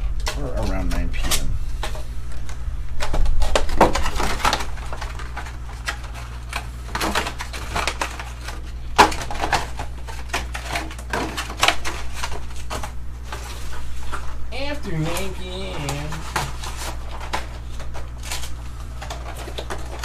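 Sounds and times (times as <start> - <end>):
steady low hum: 0.0 - 20.0
packaging crinkling and clicking: 0.2 - 14.3, 15.2 - 20.0.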